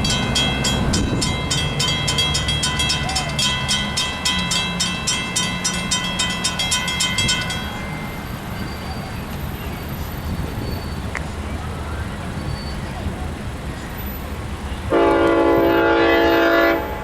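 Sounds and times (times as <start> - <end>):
railroad crossing bell ringing: 0.0 - 17.0
train rumble: 0.0 - 17.0.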